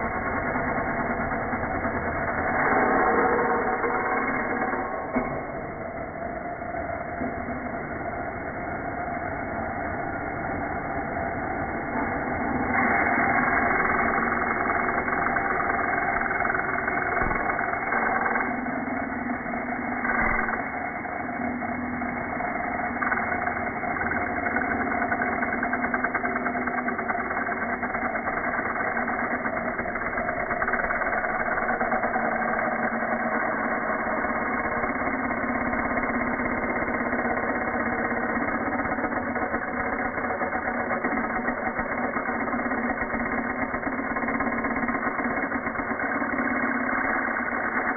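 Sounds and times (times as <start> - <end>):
slowed angle grinder drone: 0.0 - 47.9.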